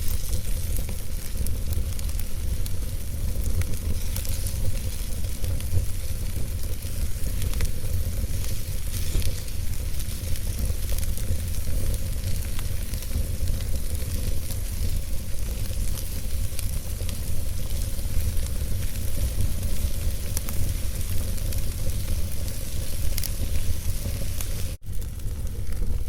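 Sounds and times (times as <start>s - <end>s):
fire hissing and rumbling: 0.0s - 26.0s
logs crackling and popping: 0.0s - 26.0s.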